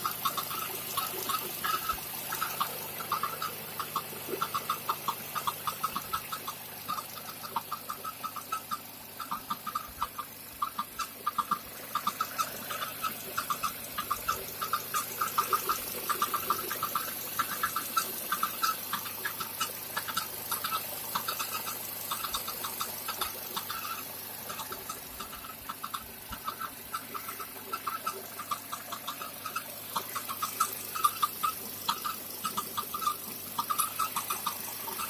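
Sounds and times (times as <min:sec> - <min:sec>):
faint steady hum: 0:00.0 - 0:35.0
valve clicking rapidly: 0:00.0 - 0:35.0.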